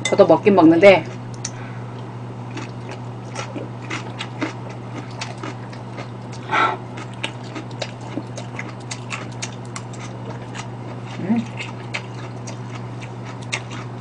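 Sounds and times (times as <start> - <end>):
steady low hum: 0.0 - 14.0
crunchy vegetable chewing: 1.1 - 14.0.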